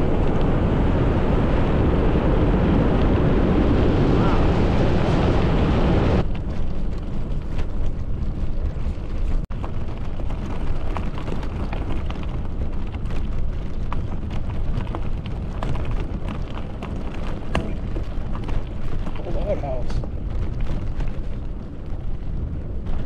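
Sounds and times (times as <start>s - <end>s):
bicycle tyres rolling on gravel: 0.0s - 23.0s.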